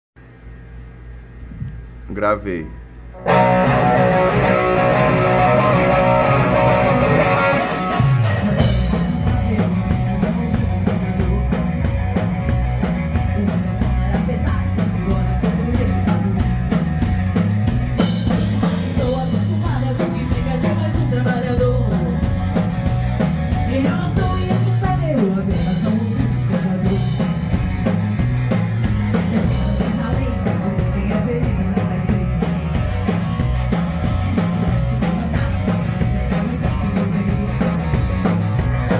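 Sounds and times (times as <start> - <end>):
bass guitar: 1.4 - 38.9
electric guitar chords: 3.1 - 38.9
drum kit beat: 3.2 - 38.9.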